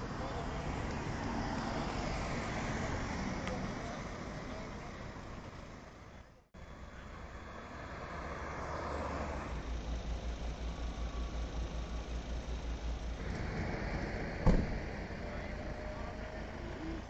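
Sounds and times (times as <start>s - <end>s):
engine running with low throb: 0.0s - 17.0s
road traffic noise: 0.0s - 17.0s.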